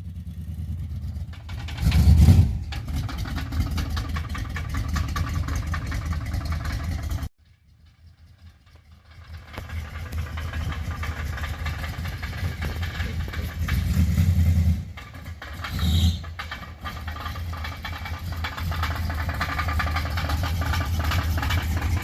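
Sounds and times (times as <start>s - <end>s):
engine revving: 0.0s - 7.3s, 8.8s - 22.0s
engine knocking: 0.0s - 22.0s.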